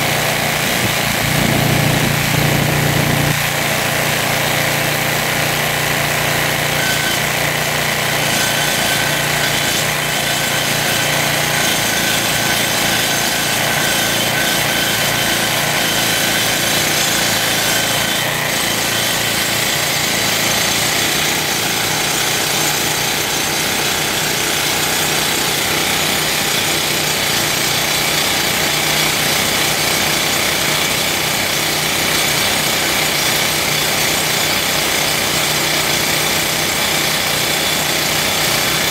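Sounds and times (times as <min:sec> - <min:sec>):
rock drill hammering: 0:00.0 - 0:38.9.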